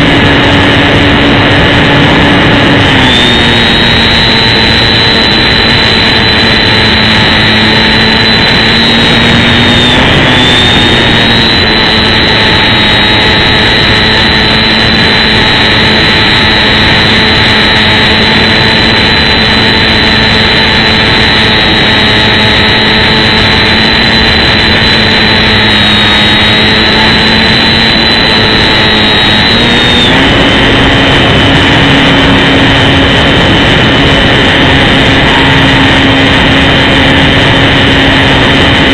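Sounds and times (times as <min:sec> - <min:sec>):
model plane motor and propeller: 0:00.0 - 0:38.9.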